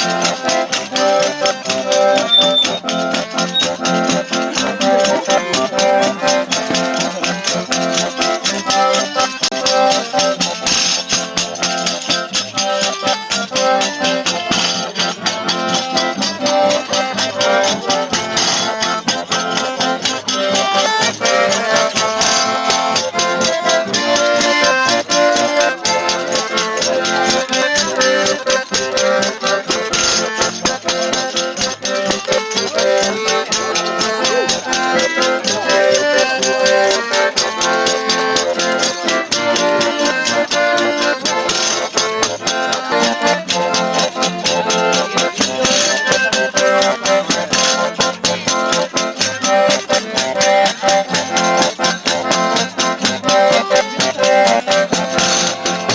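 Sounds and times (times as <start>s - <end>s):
button accordion melody: 0.0s - 55.9s
pandeiro jingling beat: 0.0s - 55.9s.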